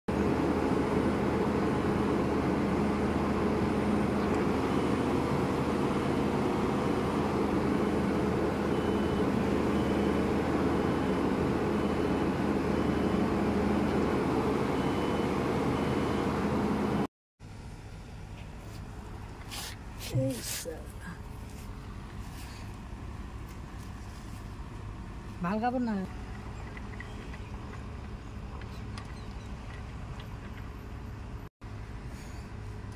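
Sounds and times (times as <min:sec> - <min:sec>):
excavator engine and hydraulics: 0:00.1 - 0:32.9
outdoor noise: 0:00.1 - 0:32.9.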